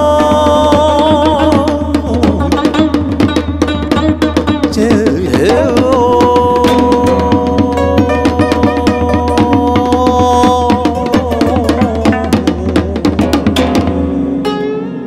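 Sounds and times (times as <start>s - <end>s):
quick hand-drum strokes: 0.1s - 14.1s.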